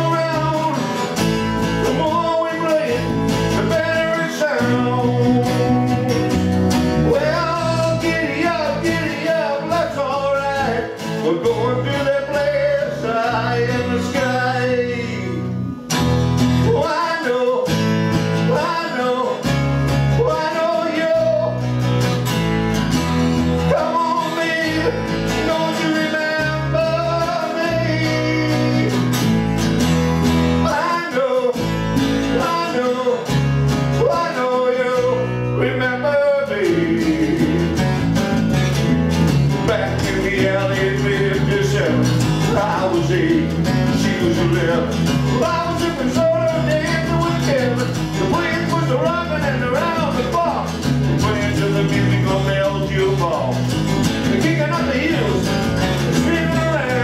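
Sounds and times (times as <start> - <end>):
bass line: 0.0 - 17.1, 17.7 - 31.0, 31.6 - 57.0
acoustic guitars: 0.0 - 57.0.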